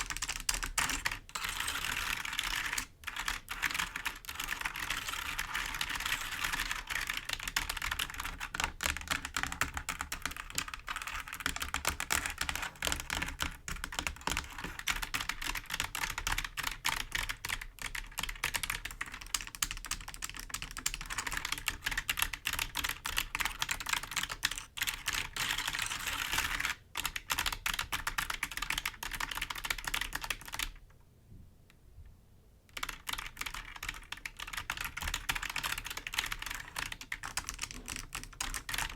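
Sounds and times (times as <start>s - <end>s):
fingers tapping keyboard keys: 0.0s - 30.8s, 32.7s - 38.9s.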